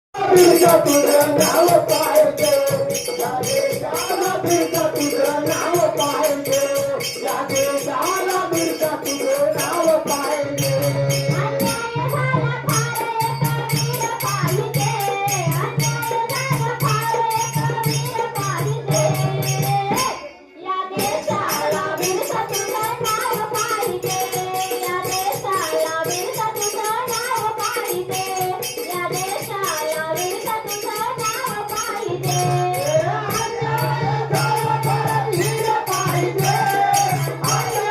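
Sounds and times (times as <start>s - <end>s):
jingling percussion: 0.2s - 37.9s.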